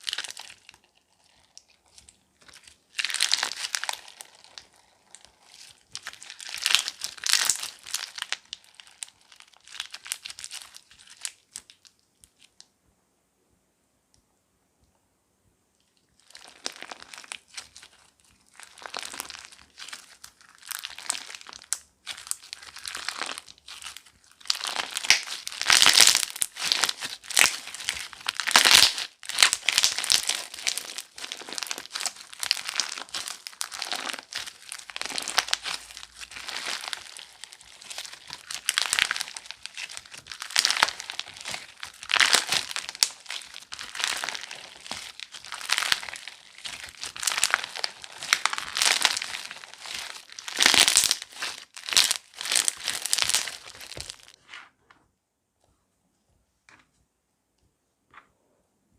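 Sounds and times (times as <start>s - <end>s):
crunchy slime crackling: 0.0s - 12.6s, 16.2s - 54.4s.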